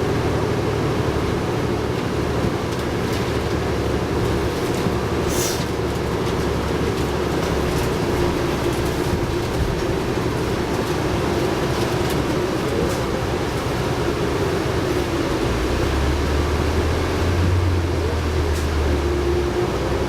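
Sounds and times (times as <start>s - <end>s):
diesel bus engine rumble: 0.0s - 20.0s.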